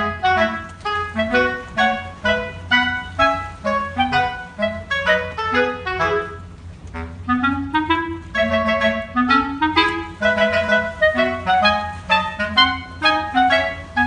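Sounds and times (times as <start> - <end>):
low steady accompaniment: 0.0 - 14.0
quick melody of short notes: 0.0 - 14.0.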